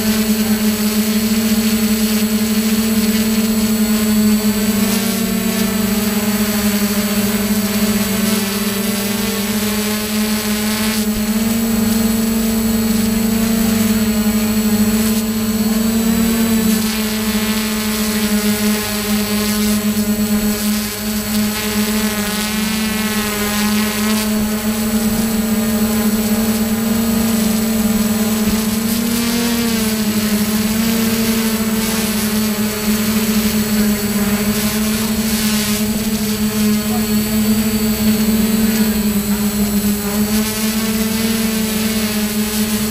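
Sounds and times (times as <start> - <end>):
drone propellers humming: 0.0 - 42.9.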